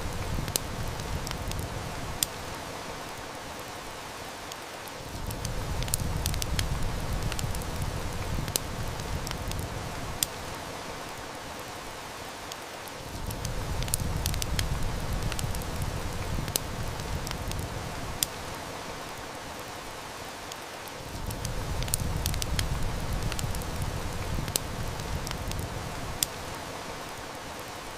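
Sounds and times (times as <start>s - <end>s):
heavy rain: 0.0s - 27.9s
wood fire crackling: 0.0s - 27.9s.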